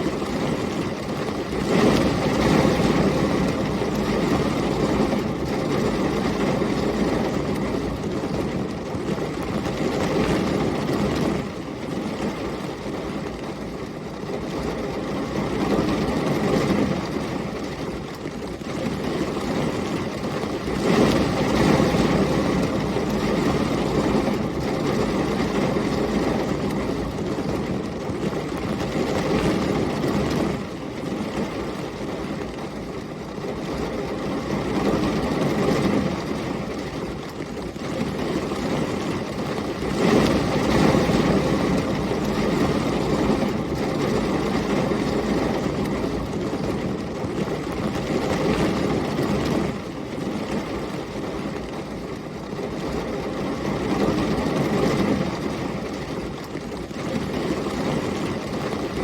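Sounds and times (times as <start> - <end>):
heavy rain: 0.0 - 59.0
storm wind: 0.0 - 59.0.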